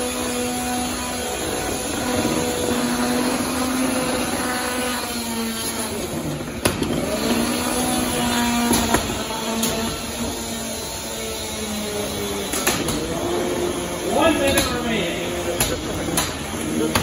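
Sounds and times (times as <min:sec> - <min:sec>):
constant noisy din: 0:00.0 - 0:17.0.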